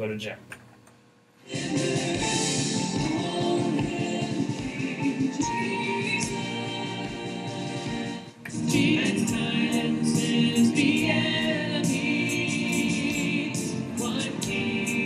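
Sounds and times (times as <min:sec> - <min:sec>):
group of singers: 0:01.4 - 0:15.0
worship band playing: 0:01.5 - 0:15.0.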